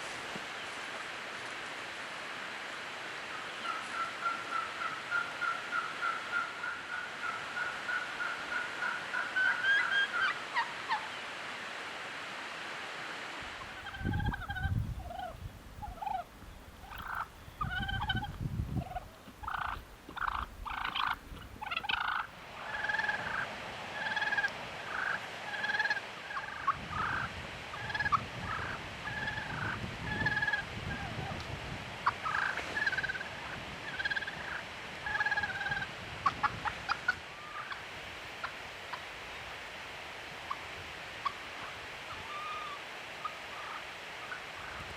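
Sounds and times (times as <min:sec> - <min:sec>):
wild turkeys calling: 0:03.3 - 0:11.2, 0:13.5 - 0:31.1, 0:32.0 - 0:39.1, 0:40.5 - 0:44.9.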